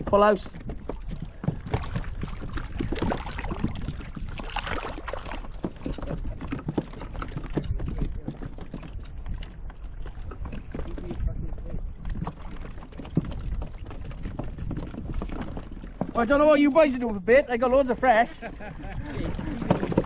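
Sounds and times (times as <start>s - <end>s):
water splashing against kayak: 0.0s - 20.0s.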